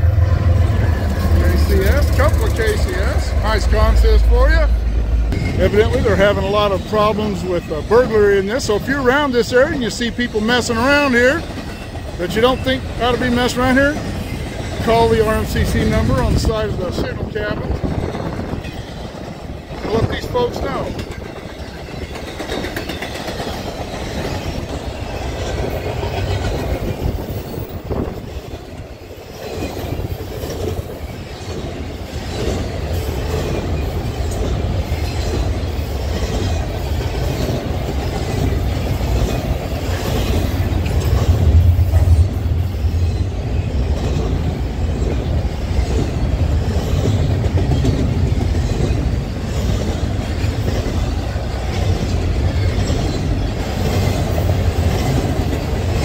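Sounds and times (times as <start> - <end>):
wheels clicking over rails: 0.0 - 4.6, 5.3 - 56.0
freight train rumbling past: 0.0 - 56.0.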